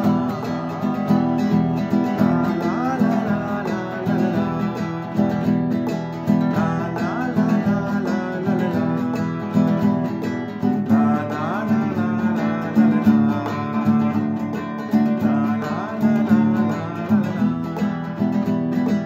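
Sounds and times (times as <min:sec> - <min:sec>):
classical guitar strumming: 0:00.0 - 0:19.0
man singing: 0:00.0 - 0:19.0.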